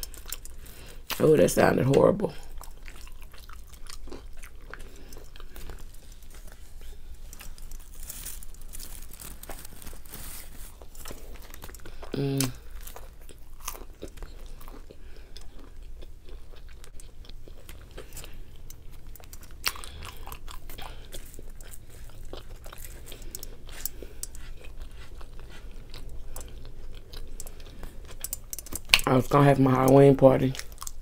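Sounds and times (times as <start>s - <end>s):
person chewing crunchy food: 0.0s - 1.2s, 1.8s - 31.0s.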